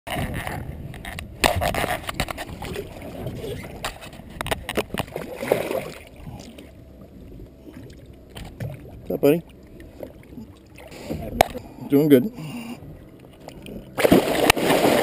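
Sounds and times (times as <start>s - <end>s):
water sloshing against boat: 0.1s - 15.0s.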